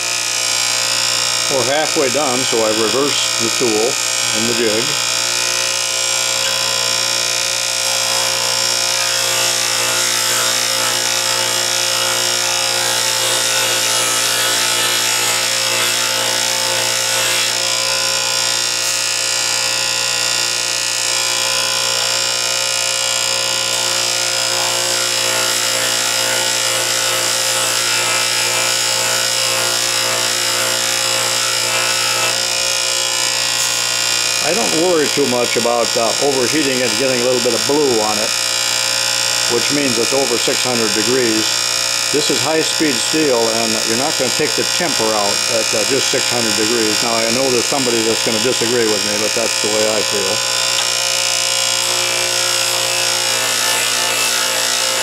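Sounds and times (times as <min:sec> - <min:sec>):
bench grinder hum: 0:00.0 - 0:55.0
tool bit grinding on wheel: 0:00.0 - 0:55.0.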